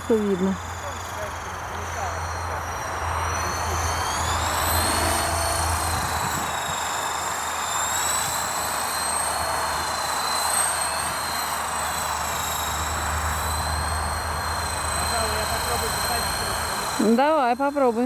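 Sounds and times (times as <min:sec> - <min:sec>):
model helicopter whine: 0:00.0 - 0:18.0.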